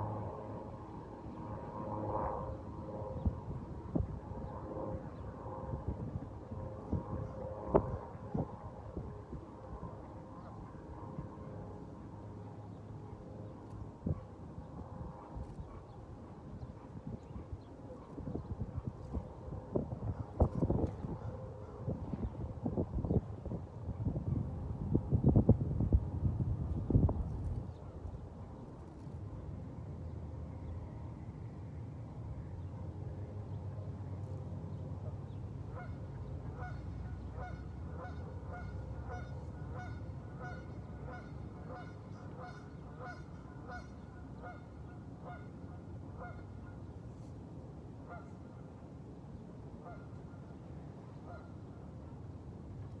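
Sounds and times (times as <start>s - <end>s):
wind rumble on microphone: 0.0s - 53.0s.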